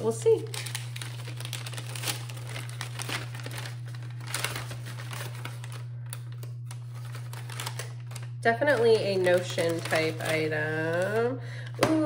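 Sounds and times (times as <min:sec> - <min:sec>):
low hum: 0:00.0 - 0:12.0
paper bag crinkling: 0:00.0 - 0:12.0.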